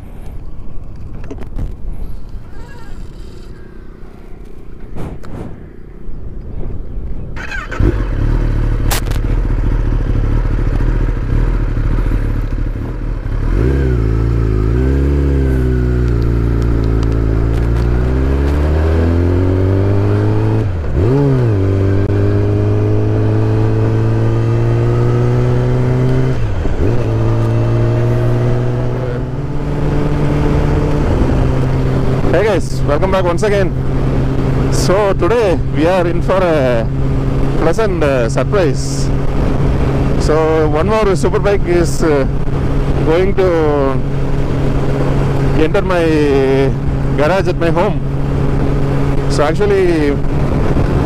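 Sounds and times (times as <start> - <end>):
motorcycle engine accelerating: 0.9 - 51.0.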